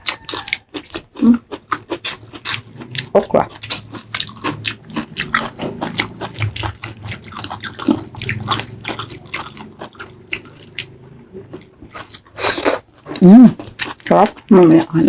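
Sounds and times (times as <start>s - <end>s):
biting and chewing food: 0.0s - 15.0s.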